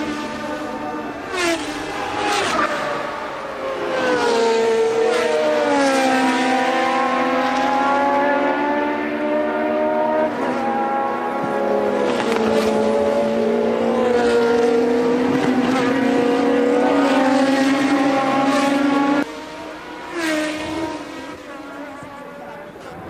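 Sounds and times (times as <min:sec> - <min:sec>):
racing cars passing at high revs: 0:00.0 - 0:23.0.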